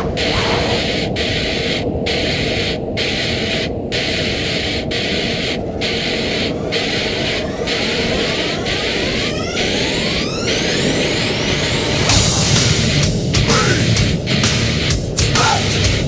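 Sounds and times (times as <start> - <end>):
noisy electronic music: 0.0 - 16.0.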